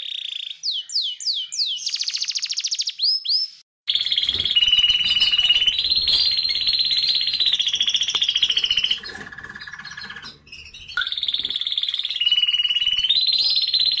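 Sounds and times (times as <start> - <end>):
canary singing trills: 0.0 - 14.0.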